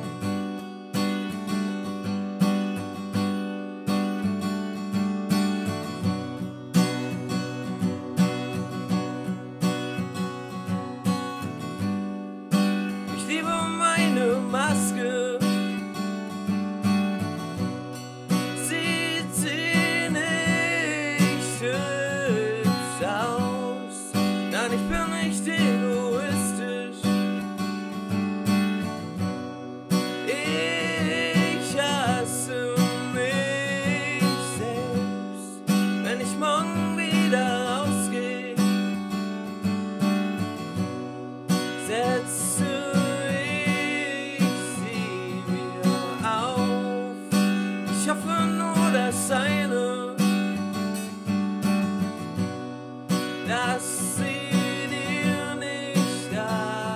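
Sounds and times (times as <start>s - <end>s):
acoustic guitar music: 0.0s - 56.9s.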